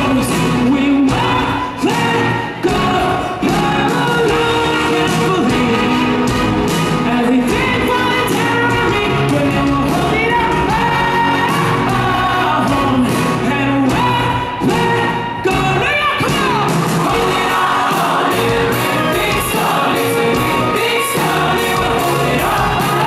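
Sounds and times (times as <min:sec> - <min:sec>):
man singing into microphone: 0:00.0 - 0:06.2, 0:07.0 - 0:23.0
steady drum beat: 0:00.0 - 0:23.0.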